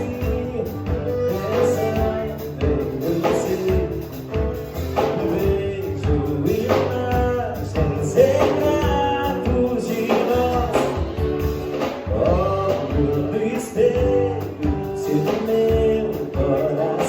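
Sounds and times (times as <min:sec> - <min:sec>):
live band playing a song: 0:00.0 - 0:17.0
person singing: 0:00.0 - 0:17.0.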